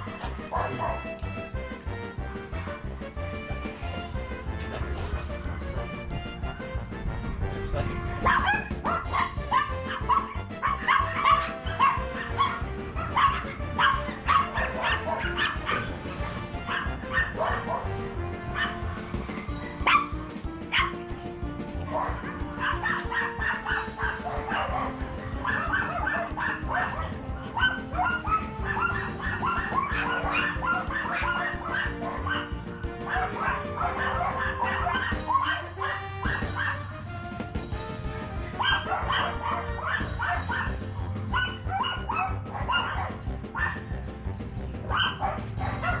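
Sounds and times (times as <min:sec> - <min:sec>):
dogs barking and yipping: 0:00.0 - 0:46.0
slow background music: 0:00.0 - 0:46.0.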